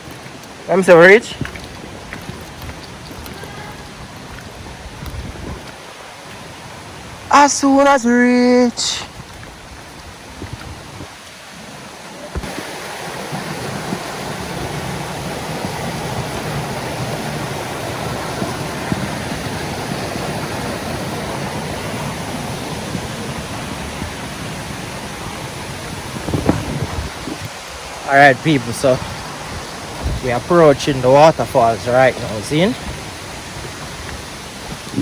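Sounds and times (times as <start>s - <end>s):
flowing water rushing: 0.0s - 35.0s.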